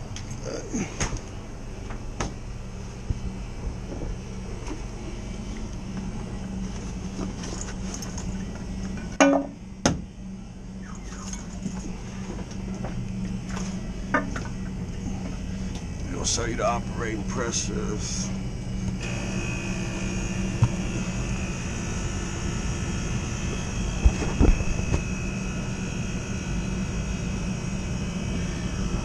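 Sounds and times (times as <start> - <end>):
refrigeration unit humming: 0.0 - 29.0.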